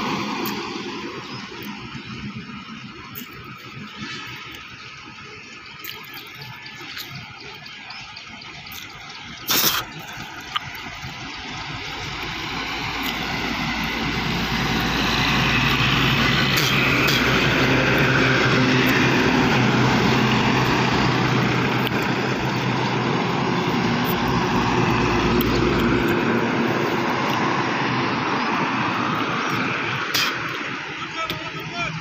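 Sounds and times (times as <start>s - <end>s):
passenger train passing: 0.0s - 5.6s, 11.0s - 32.0s
trucks passing on highway: 0.0s - 32.0s.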